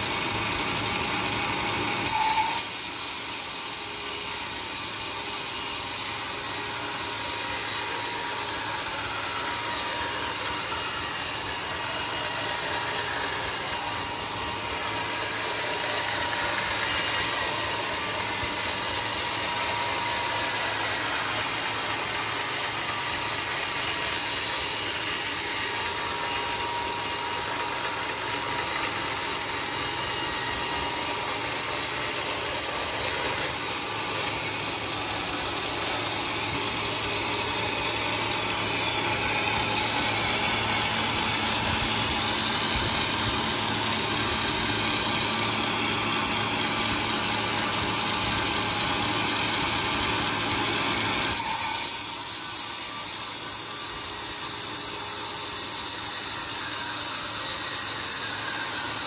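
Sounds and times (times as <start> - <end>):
bandsaw sawmill running: 0.0 - 59.0.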